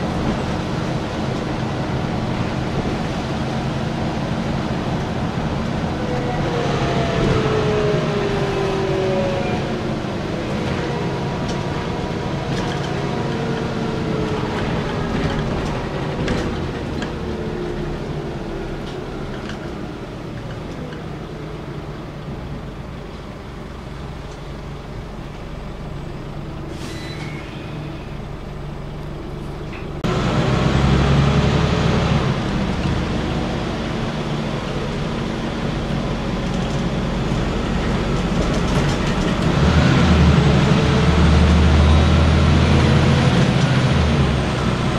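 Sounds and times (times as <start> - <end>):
bus diesel engine running: 0.0 - 44.9
road noise: 0.0 - 44.9.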